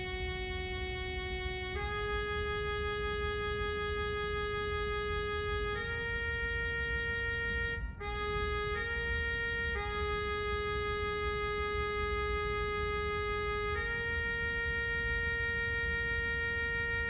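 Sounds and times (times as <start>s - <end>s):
synthesized trumpet notes: 0.0s - 17.0s.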